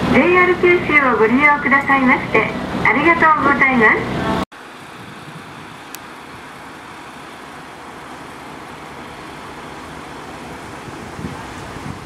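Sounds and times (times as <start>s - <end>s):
diesel railcars idling: 0.0s - 12.0s.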